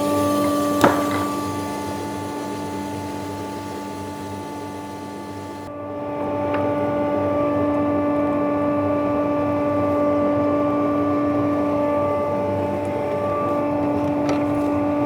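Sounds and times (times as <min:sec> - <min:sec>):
band saw humming: 0:00.0 - 0:15.0.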